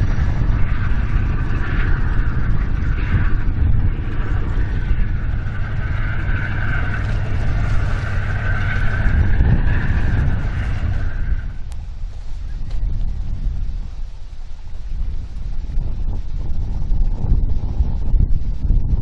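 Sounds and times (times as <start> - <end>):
diesel engine rumble: 0.0 - 19.0
wavering whine: 0.0 - 19.0
wind buffeting microphone: 0.0 - 19.0.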